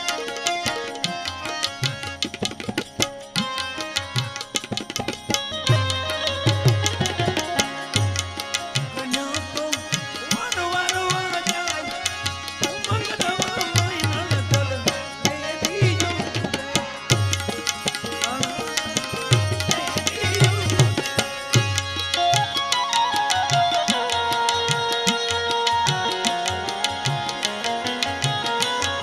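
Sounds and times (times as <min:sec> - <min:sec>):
hand drums playing rhythm: 0:00.0 - 0:29.0.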